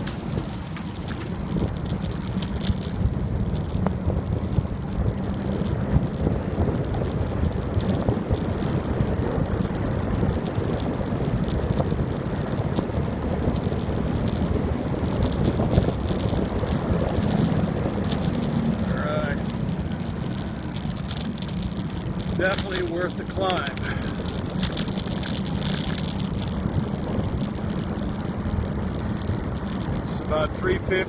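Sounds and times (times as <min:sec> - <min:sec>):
bicycle rattles and clicks: 0:00.0 - 0:31.0
wind buffeting microphone: 0:00.0 - 0:31.0.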